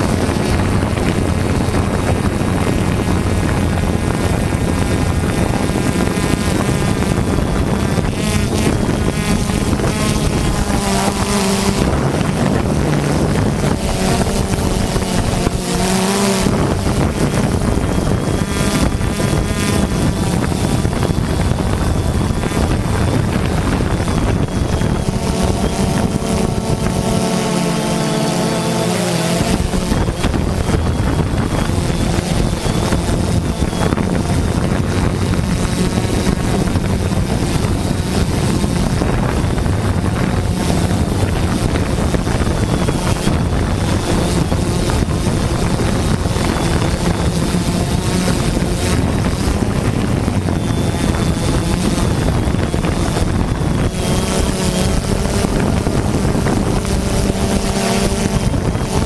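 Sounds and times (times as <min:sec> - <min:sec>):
drone propellers buzzing: 0:00.0 - 0:59.0
high motor whine: 0:00.0 - 0:59.0
wind on microphone: 0:00.0 - 0:59.0.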